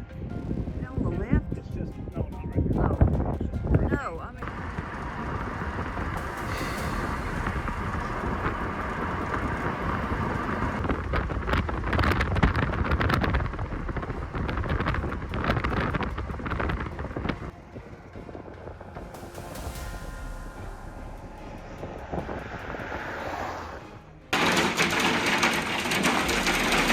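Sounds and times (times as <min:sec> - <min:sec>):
storm wind buffeting microphone: 0:00.0 - 0:24.3.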